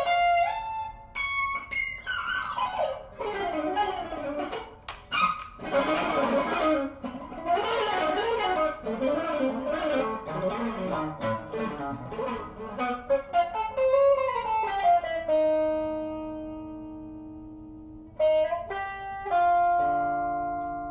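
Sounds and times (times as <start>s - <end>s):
electric guitar playing: 0.0s - 20.9s.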